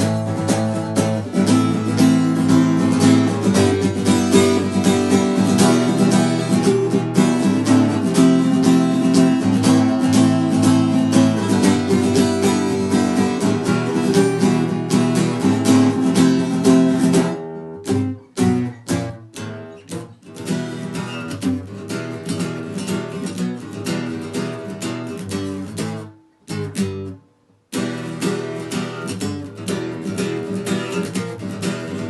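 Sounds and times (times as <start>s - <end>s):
punk rock guitar strumming: 0.0s - 27.2s.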